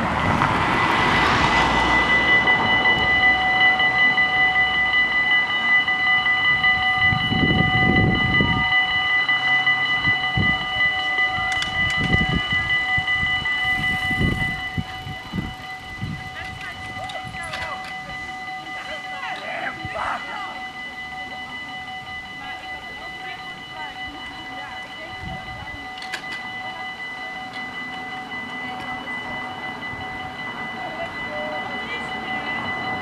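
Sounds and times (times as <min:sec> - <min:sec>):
level crossing bells ringing: 0:00.0 - 0:33.0
passing van: 0:00.0 - 0:33.0.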